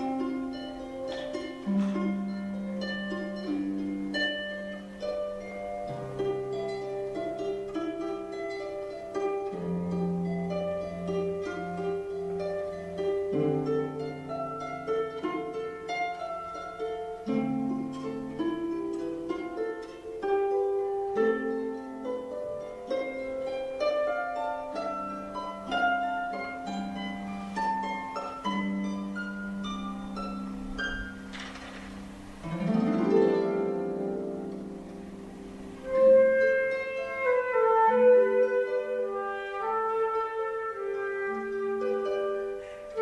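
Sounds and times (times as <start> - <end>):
harp playing plucked notes: 0.0 - 43.0.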